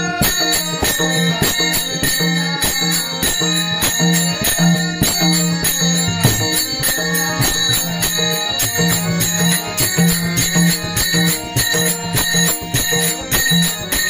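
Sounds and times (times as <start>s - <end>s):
jingling hand cymbals: 0.0s - 14.0s
drum steady beat: 0.2s - 14.0s
reed organ tones: 1.4s - 14.0s.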